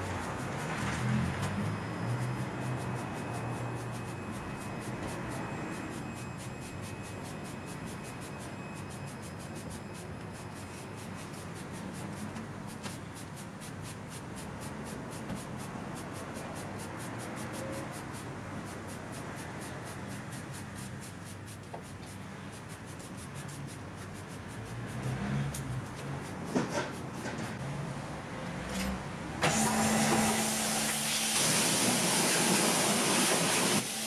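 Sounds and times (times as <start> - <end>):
brush scrubbing a wheel: 0.0 - 27.3.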